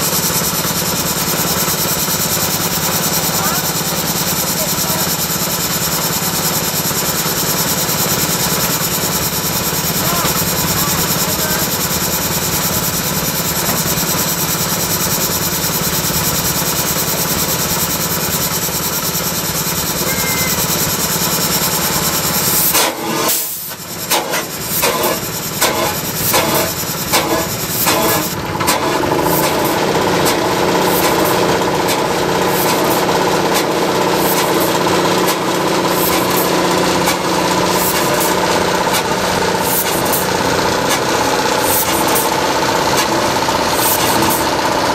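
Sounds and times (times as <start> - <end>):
old stationary engines running: 0.0 - 44.9
slow engine exhaust beats: 0.0 - 44.9.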